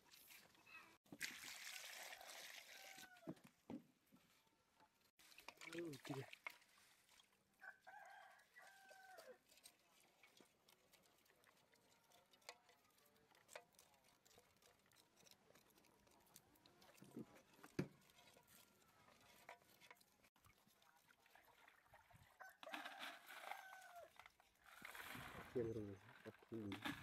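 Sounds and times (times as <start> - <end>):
wet rustle from water: 5.1 - 27.0.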